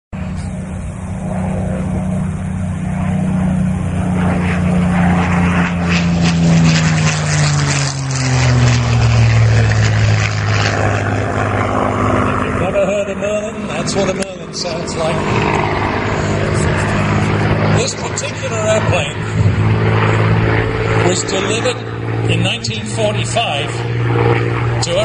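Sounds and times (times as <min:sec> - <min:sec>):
aircraft engine passing: 0:00.2 - 0:25.0.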